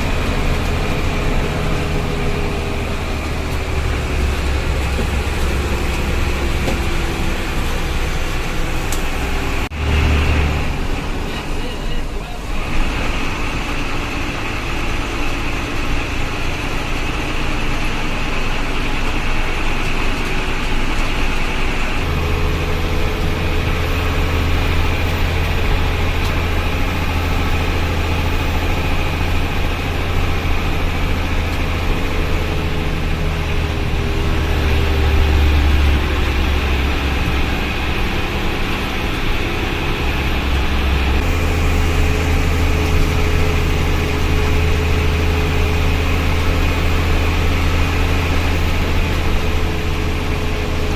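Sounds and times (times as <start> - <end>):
bus engine droning: 0.0 - 50.9
deep engine hum: 0.0 - 50.9
road noise: 0.0 - 50.9.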